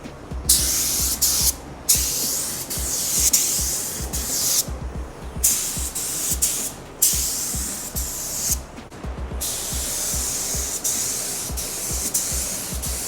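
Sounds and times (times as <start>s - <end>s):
paint spray gun hissing: 0.0s - 4.8s, 5.4s - 8.8s, 9.4s - 13.0s
background music with low beat: 0.0s - 13.0s.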